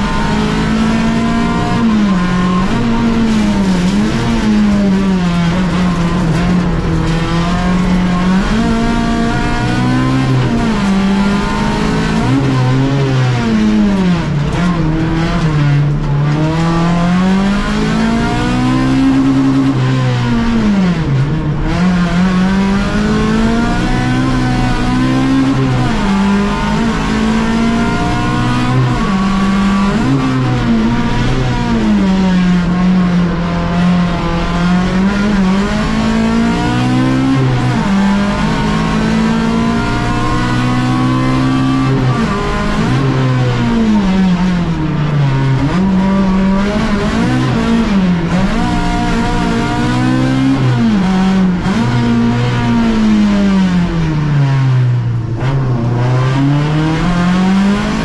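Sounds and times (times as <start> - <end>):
car engine revving hard: 0.0 - 58.0.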